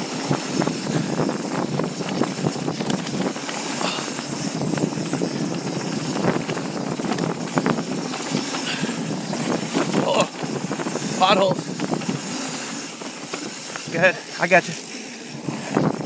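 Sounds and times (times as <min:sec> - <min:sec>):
wind noise on microphone: 0:00.0 - 0:14.1, 0:14.7 - 0:16.0
bike rattling and knocking: 0:00.0 - 0:16.0
bike tyres rolling over dirt: 0:00.0 - 0:16.0.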